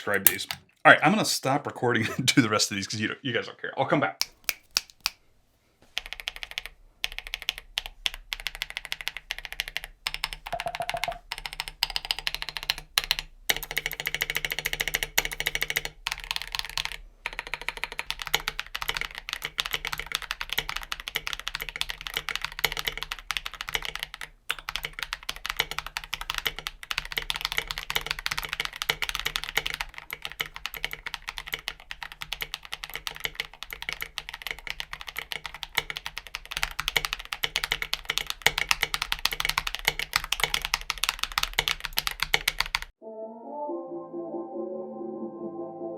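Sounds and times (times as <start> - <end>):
mechanical keyboard typing: 0.0 - 0.6, 6.0 - 42.9.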